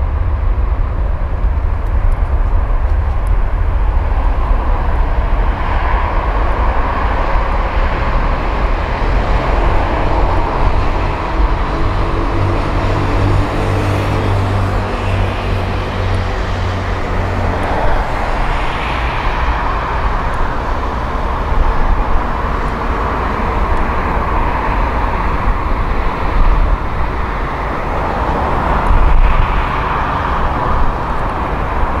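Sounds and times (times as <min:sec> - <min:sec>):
jet engines at takeoff power: 0:00.0 - 0:32.0.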